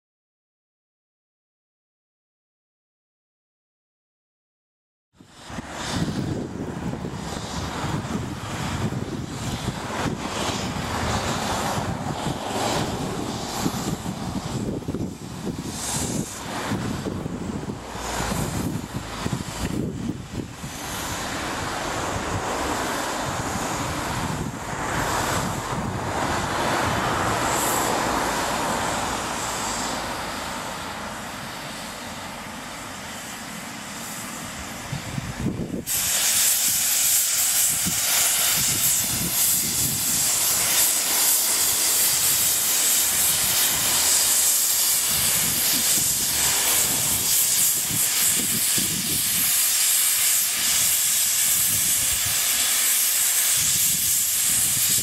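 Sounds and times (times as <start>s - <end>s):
loud high steam hiss: 5.2s - 55.0s
steam locomotive hissing: 5.2s - 55.0s.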